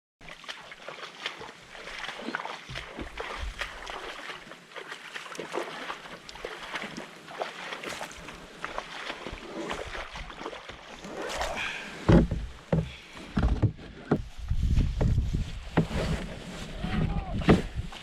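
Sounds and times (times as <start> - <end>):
water sloshing and splashing: 0.2 - 18.0.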